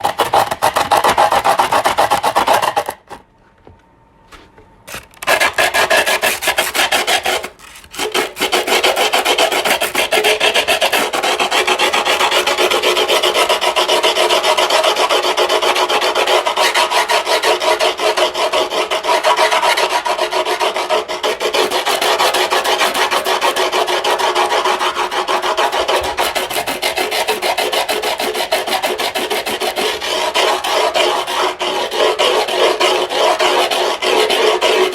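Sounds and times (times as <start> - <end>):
file rasping on griptape: 0.0 - 3.2, 4.9 - 34.9.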